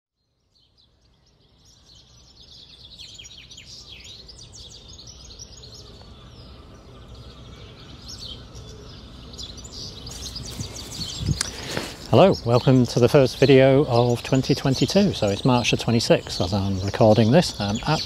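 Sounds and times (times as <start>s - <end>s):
birds chirping and trilling: 0.2s - 18.0s.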